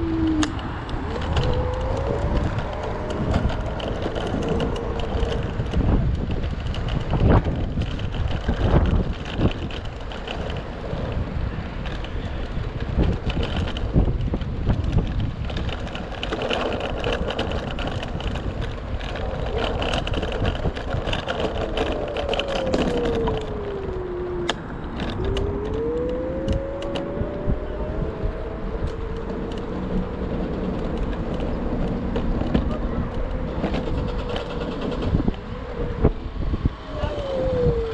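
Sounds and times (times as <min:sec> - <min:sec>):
road and wind rumble: 0:00.0 - 0:37.9.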